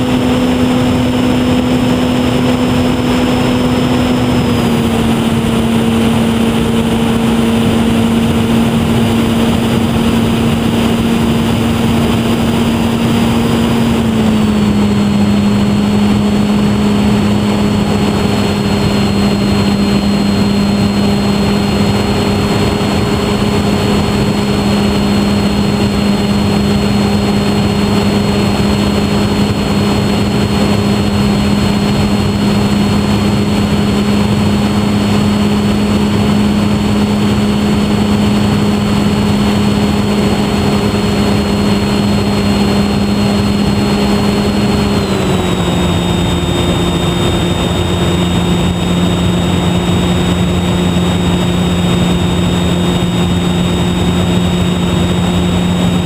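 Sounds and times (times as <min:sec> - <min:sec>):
model plane motor humming: 0:00.0 - 0:56.0.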